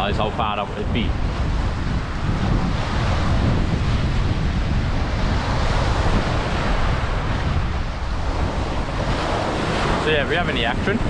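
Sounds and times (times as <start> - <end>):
sea surf rushing: 0.0 - 11.0
wind buffeting microphone: 0.0 - 11.0.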